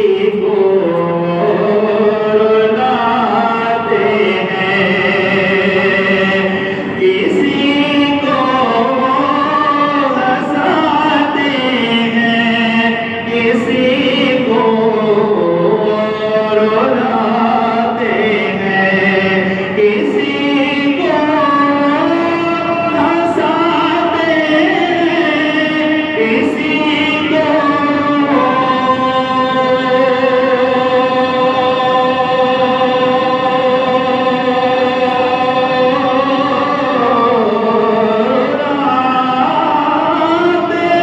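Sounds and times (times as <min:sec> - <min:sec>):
person singing slow melody: 0:00.0 - 0:41.0.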